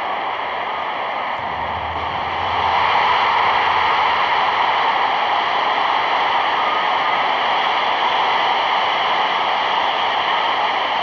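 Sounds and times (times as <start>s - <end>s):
stadium crowd cheering: 0.0s - 11.0s.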